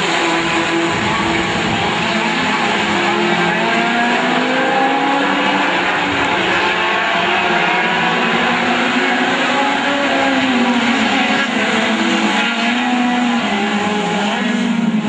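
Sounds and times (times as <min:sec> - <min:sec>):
race car engines accelerating: 0:00.0 - 0:15.0.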